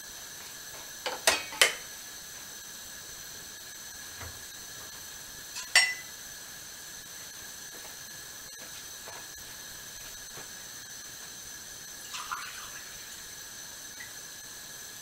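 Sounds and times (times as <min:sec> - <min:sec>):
gas stove hiss: 0:00.0 - 0:15.0.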